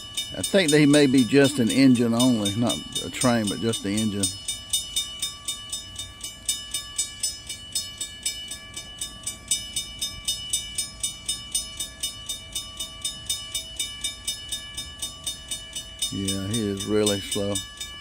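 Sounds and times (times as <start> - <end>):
railroad crossing bell ringing: 0.0 - 18.0.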